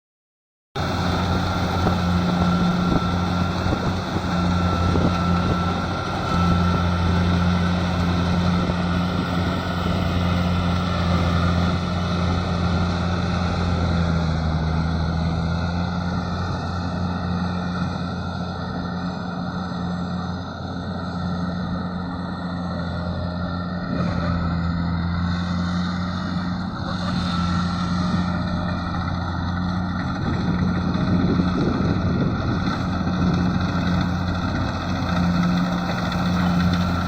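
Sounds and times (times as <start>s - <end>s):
combine harvester engine hum: 0.8s - 37.0s.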